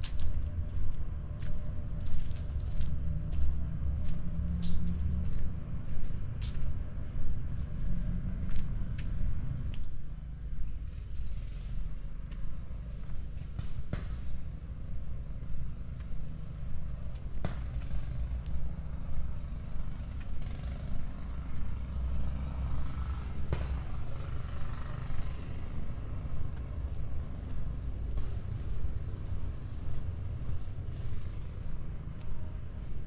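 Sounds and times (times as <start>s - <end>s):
road traffic rumble: 0.0s - 33.0s
vehicle passing: 0.0s - 33.0s.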